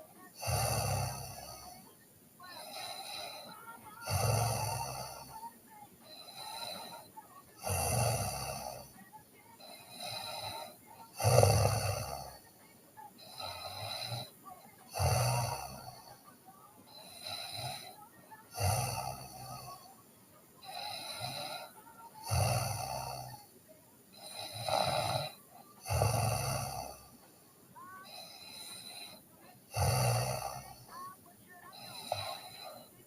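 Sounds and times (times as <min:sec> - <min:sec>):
person snoring: 0:00.0 - 0:09.0, 0:09.6 - 0:12.6, 0:13.2 - 0:16.3, 0:16.9 - 0:20.0, 0:20.6 - 0:23.5, 0:24.1 - 0:33.0.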